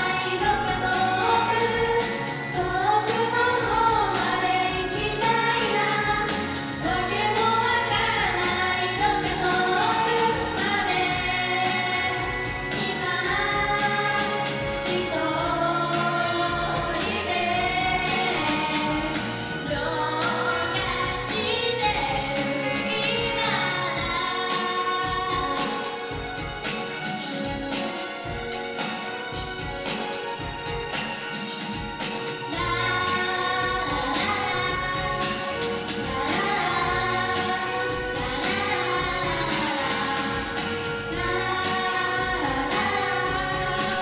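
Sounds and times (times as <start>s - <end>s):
women singing pop song: 0.0s - 29.7s, 31.7s - 44.0s
instrumental accompaniment: 0.0s - 44.0s
pop music over sound system: 0.0s - 44.0s.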